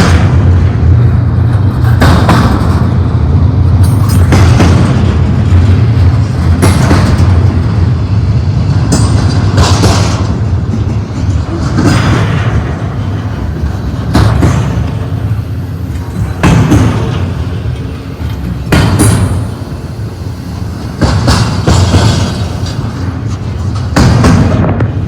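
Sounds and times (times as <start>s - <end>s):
clattering train cars: 0.0s - 25.0s
freight train rumbling past: 0.0s - 25.0s.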